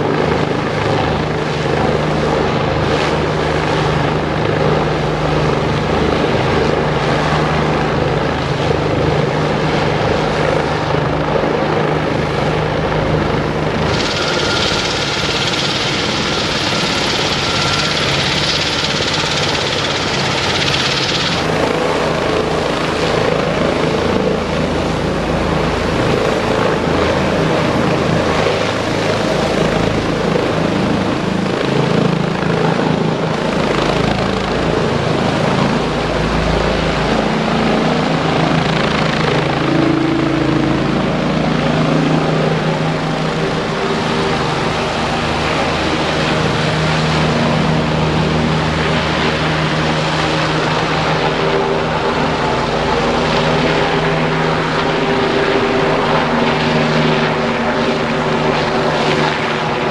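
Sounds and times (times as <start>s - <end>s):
helicopter turbines and rotor: 0.0s - 59.9s.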